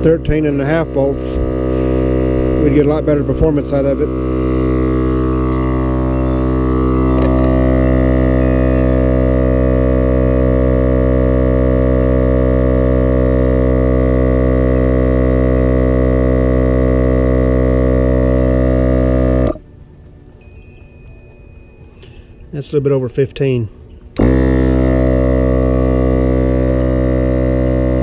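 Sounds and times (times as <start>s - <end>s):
air compressor droning: 0.0s - 28.0s.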